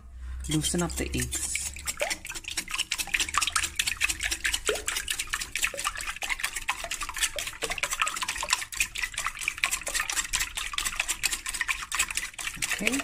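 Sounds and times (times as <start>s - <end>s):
liquid egg swishing: 0.4s - 13.0s
whisk clicking against glass bowl: 0.5s - 13.0s.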